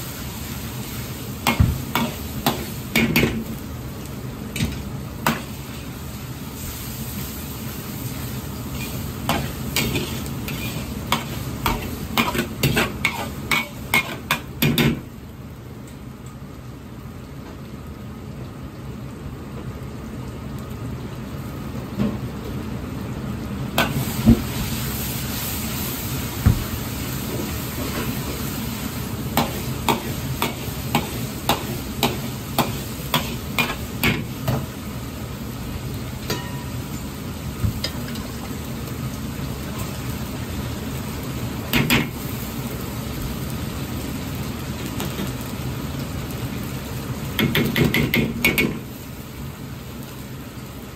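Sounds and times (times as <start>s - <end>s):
meat sizzling in a wok: 0.0s - 50.9s.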